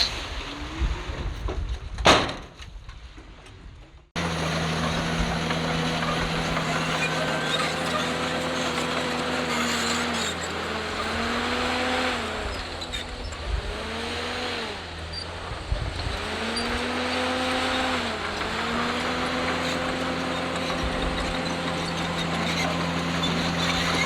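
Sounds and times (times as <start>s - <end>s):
bulldozer diesel engine under load: 4.2s - 24.0s.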